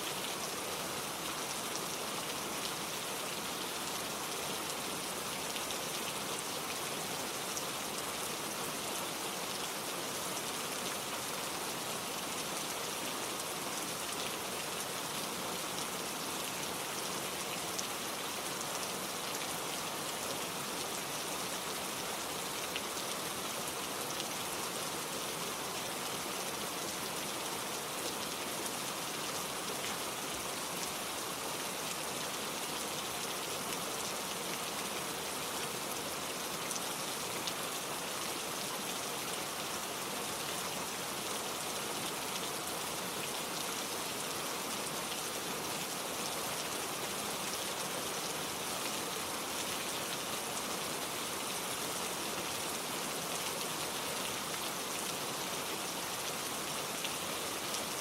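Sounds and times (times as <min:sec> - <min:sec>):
gentle rain pattering: 0:00.0 - 0:58.0.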